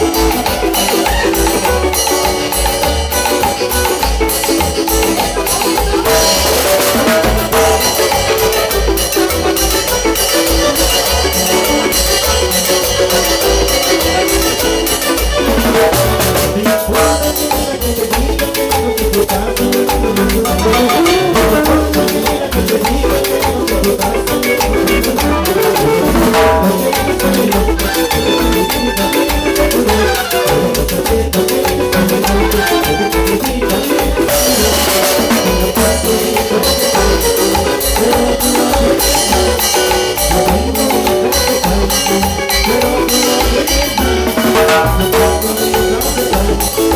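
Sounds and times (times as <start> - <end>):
drums and percussion beat: 0.0 - 46.9
pulsing bass line: 0.0 - 46.9.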